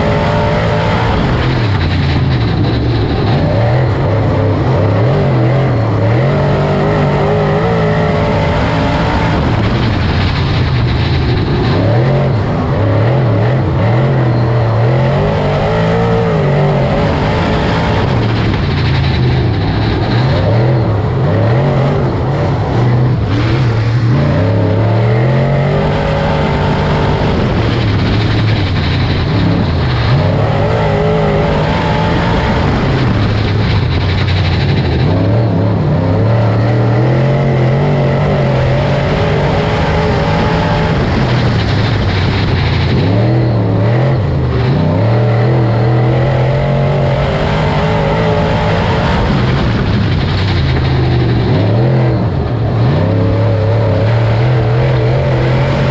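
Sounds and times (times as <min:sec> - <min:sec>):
race car engine accelerating: 0:00.0 - 0:55.9.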